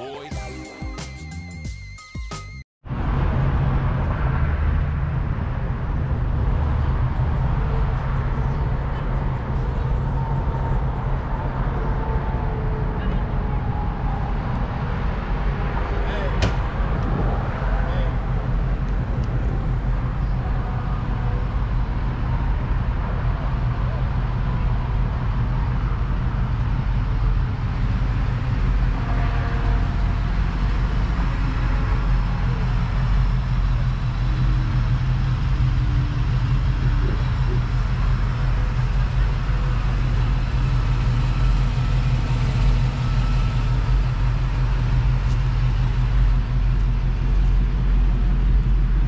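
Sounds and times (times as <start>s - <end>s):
vehicle engine rumbling: 2.8s - 49.0s.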